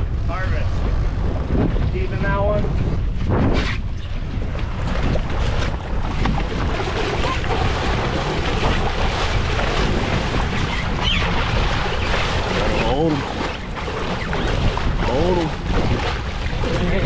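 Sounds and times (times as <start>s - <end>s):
sea washing around boat: 0.0s - 17.0s
wind buffeting microphone: 0.0s - 17.0s.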